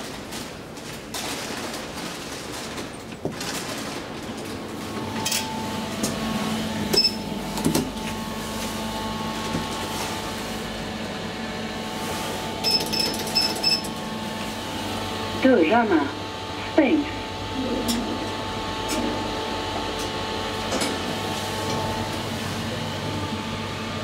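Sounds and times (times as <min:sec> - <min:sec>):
elevator machine hum: 0:02.0 - 0:24.0.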